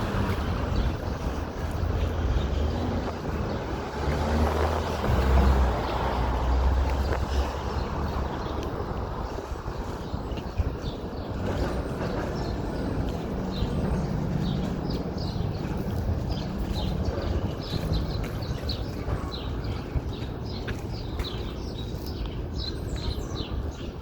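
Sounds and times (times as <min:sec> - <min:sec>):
birds chirping: 0:00.0 - 0:24.0
street traffic rumble: 0:00.0 - 0:24.0.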